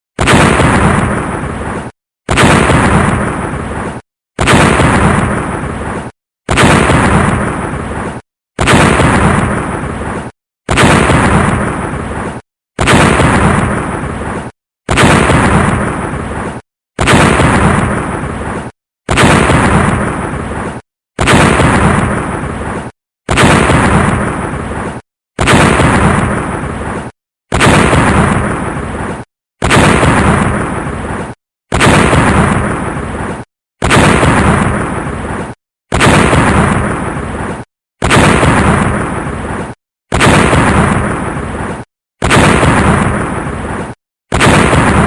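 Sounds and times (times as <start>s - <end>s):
explosion blast with deep rumble: 0.2s - 45.0s.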